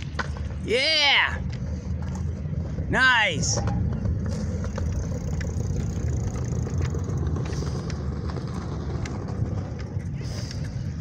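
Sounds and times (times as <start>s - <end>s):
wind and rolling rumble: 0.0s - 11.0s.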